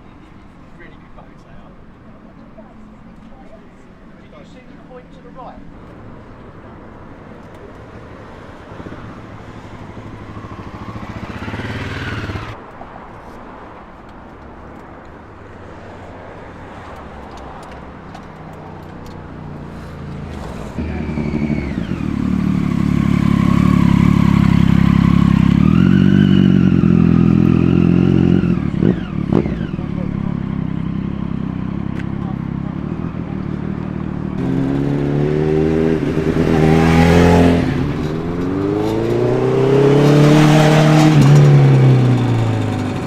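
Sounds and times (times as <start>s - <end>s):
motorcycle engines revving: 0.0s - 12.7s, 16.6s - 43.0s.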